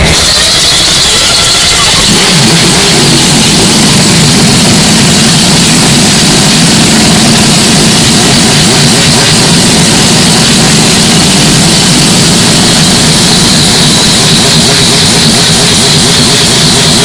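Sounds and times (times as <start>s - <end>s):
distorted race engine running: 0.0s - 17.0s.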